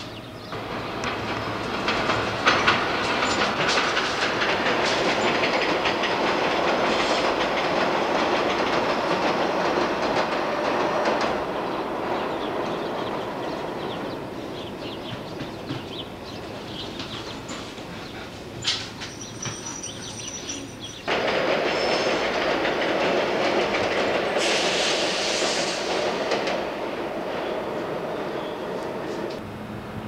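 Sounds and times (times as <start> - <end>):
subway train clattering over rails: 0.0 - 30.0.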